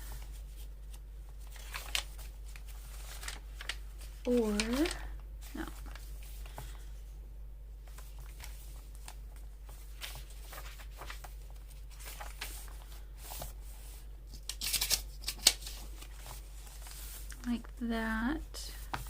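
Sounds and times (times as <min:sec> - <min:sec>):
paper rustling: 0:00.0 - 0:06.9, 0:07.8 - 0:17.6, 0:18.8 - 0:19.0.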